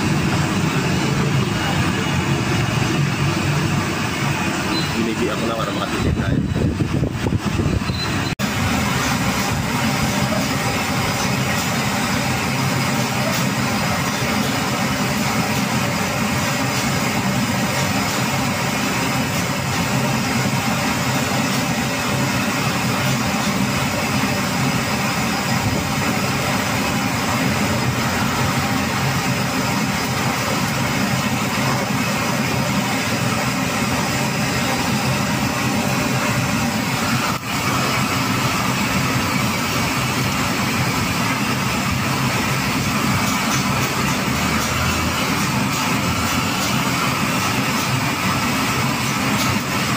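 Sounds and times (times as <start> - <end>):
workshop machinery humming: 0.0 - 49.9.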